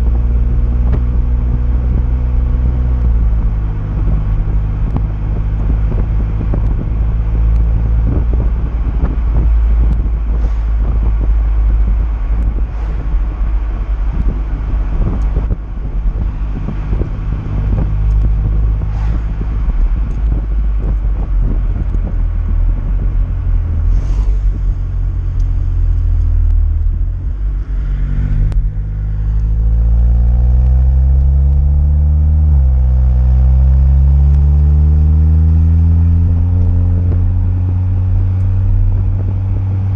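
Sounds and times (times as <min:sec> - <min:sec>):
car exhaust drone: 0:00.0 - 0:39.9
engine revs rising: 0:00.0 - 0:39.9
road noise: 0:00.0 - 0:39.9
wind noise: 0:00.0 - 0:39.9.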